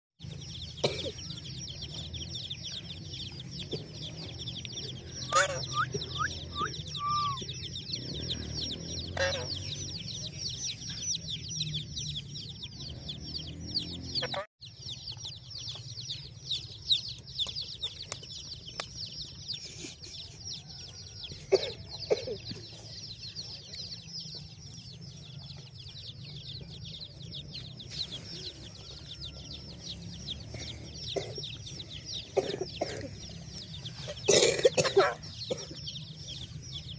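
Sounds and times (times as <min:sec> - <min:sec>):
birds chirping: 0:00.2 - 0:36.9
harsh bird calls: 0:00.2 - 0:36.9.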